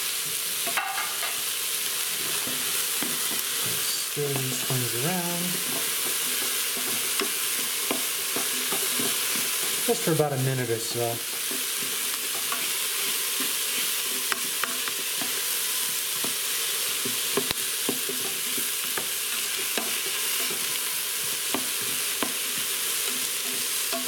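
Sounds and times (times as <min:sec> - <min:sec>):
vegetables sizzling in a pot: 0:00.0 - 0:24.0.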